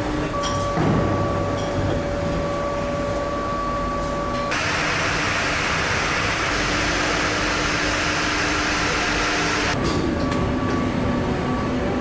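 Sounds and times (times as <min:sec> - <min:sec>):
factory machinery whine: 0:00.0 - 0:12.0
hissing machine with low hum: 0:00.0 - 0:12.0.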